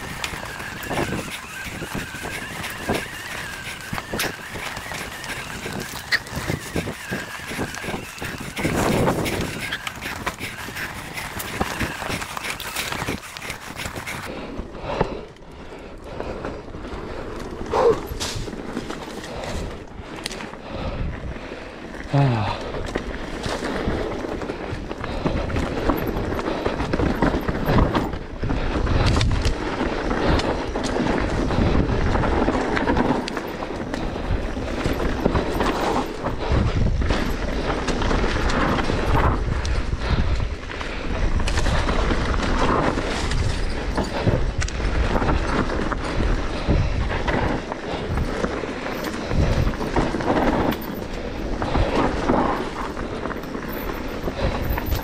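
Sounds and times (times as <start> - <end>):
bike clattering over rough trail: 0.0 - 55.0
wind rumble on microphone: 0.0 - 55.0.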